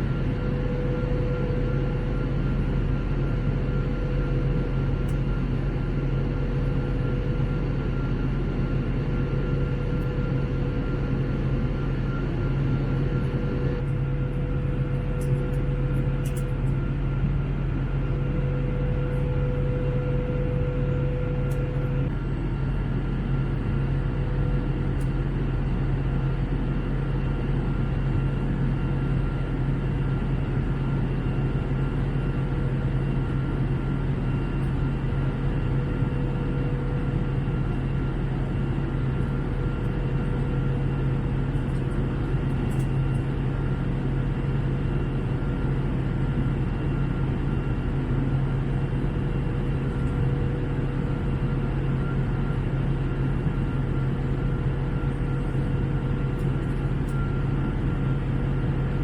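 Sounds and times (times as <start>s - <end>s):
aircraft engine drone: 0.0s - 59.0s.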